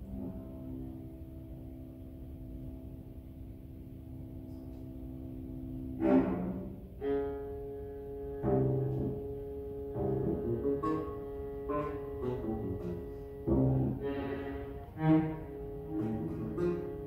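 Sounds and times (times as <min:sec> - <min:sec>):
string quartet playing chords: 0:03.2 - 0:17.0.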